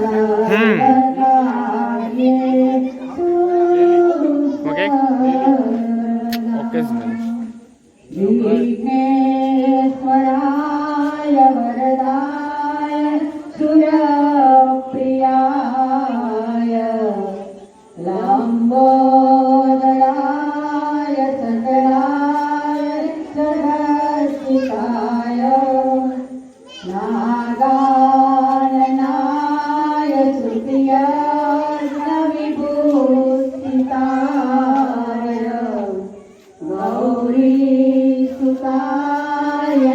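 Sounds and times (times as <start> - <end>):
voices singing a slow chant: 0.0 - 39.9.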